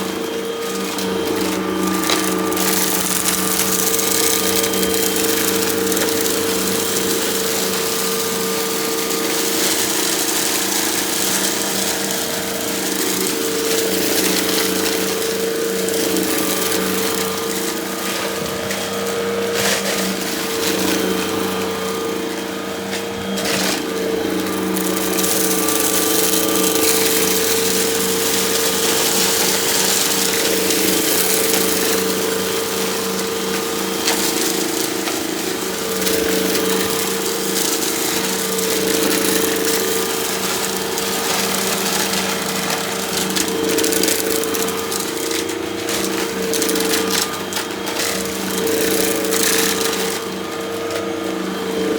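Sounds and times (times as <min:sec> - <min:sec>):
debris crackling: 0:00.0 - 0:51.9
vacuum cleaner running: 0:00.0 - 0:51.9.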